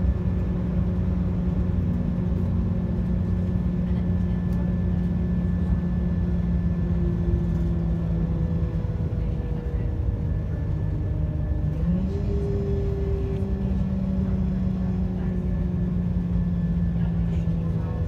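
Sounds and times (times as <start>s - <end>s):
train diesel engine drone: 0.0s - 18.0s
wheels rumbling on track: 0.0s - 18.0s.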